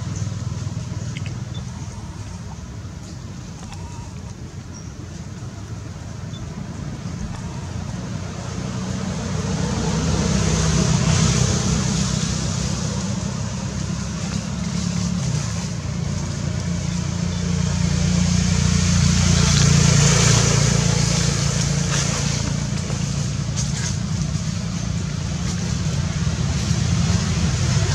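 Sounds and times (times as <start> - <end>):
vehicle engines droning: 0.0 - 27.9.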